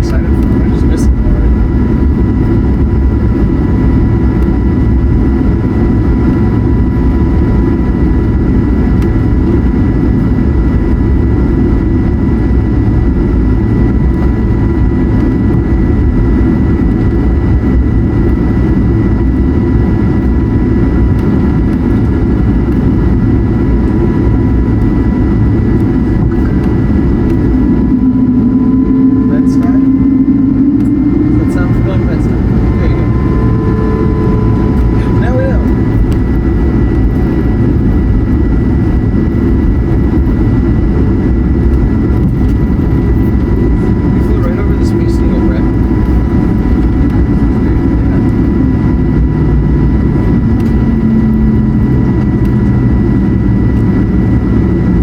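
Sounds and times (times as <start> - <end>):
jet engine rumble in cabin: 0.0 - 55.0
thin steady engine whine: 0.0 - 55.0.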